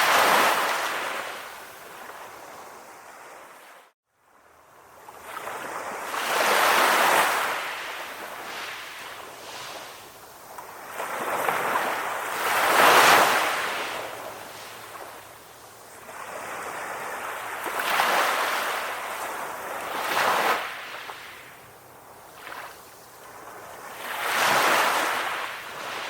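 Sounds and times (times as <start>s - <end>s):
ocean waves breaking: 0.0s - 3.8s, 5.2s - 21.6s, 22.3s - 26.0s.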